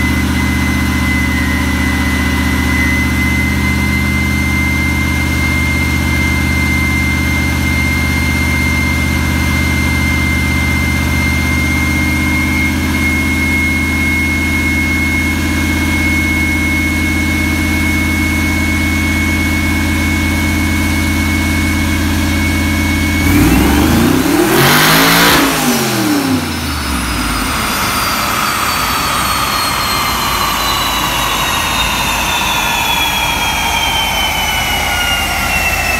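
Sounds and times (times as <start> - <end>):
car engine revving on dyno: 0.0 - 35.9
high whine: 0.0 - 35.9.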